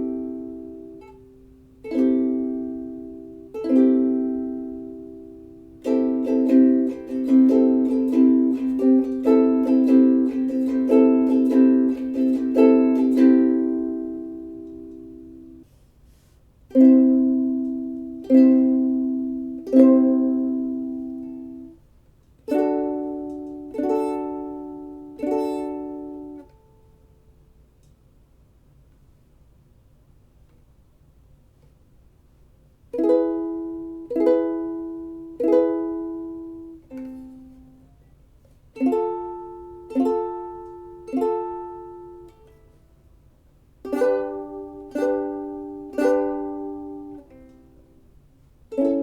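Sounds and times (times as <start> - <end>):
ukulele strumming: 0.0 - 21.8, 22.4 - 27.1, 32.9 - 38.0, 38.7 - 42.8, 43.8 - 49.0.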